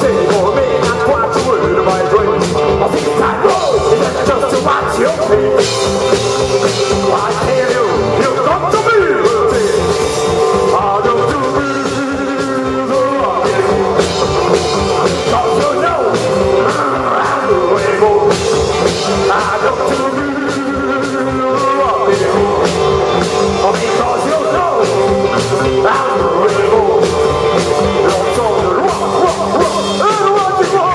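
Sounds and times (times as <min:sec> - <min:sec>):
rock and roll band playing: 0:00.0 - 0:30.9.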